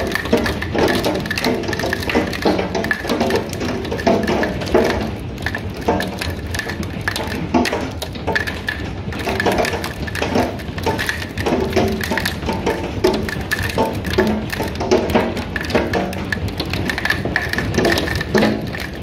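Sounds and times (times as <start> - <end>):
hail clattering on deck and glass: 0.0 - 19.0.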